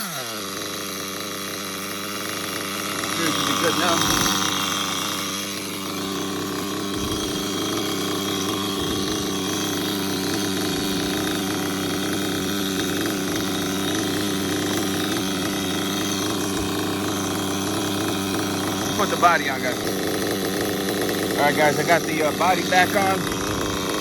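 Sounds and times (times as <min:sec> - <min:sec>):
model nitro engine idling: 0:00.0 - 0:24.0.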